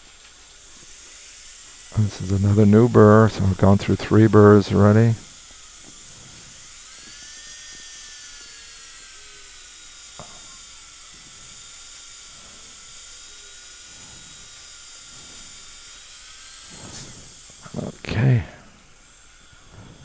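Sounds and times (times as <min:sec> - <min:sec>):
dental drill whining: 0:00.0 - 0:20.0.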